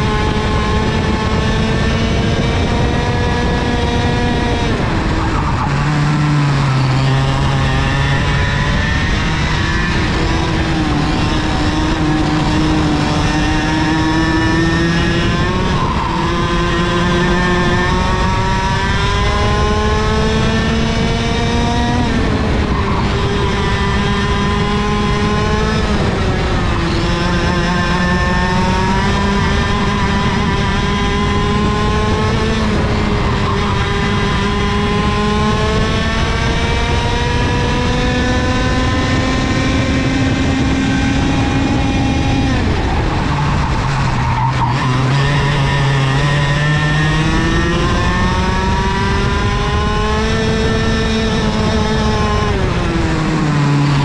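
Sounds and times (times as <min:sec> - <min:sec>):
two-stroke kart engine: 0:00.0 - 0:54.0.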